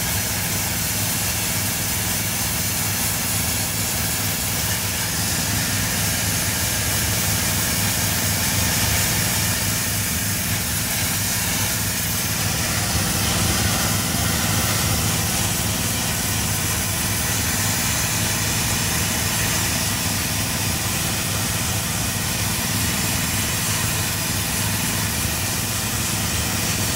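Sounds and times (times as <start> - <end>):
engine and pump droning: 0.0 - 26.9
steam jet hissing: 0.0 - 26.9.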